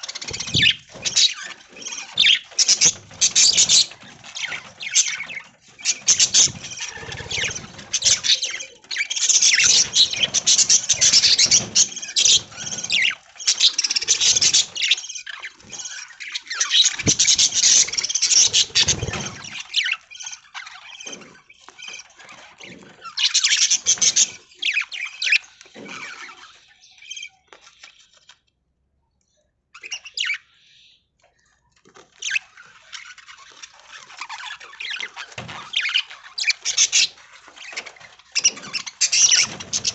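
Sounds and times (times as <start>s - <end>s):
budgerigars chattering and chirping: 0.0s - 28.0s, 29.8s - 31.0s, 32.2s - 39.9s.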